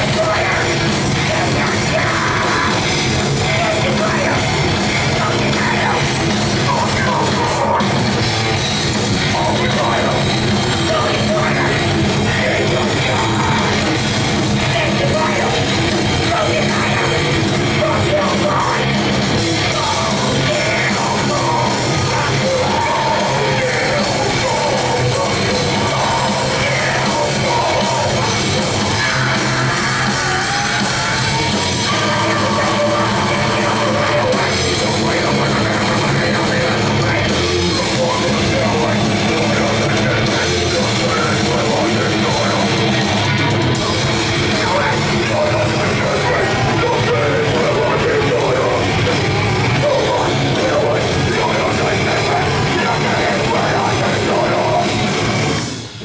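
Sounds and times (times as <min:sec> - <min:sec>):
bass guitar: 0:00.0 - 0:56.0
distorted electric guitars: 0:00.0 - 0:56.0
drum kit: 0:00.0 - 0:56.0.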